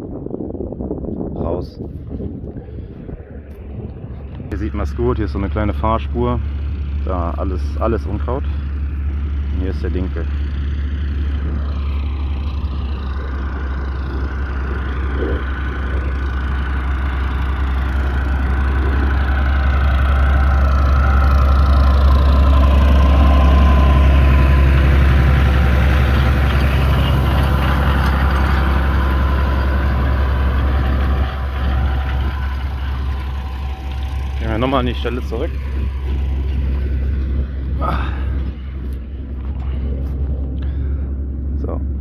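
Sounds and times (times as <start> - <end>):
tractor engine running: 0.1 - 42.0.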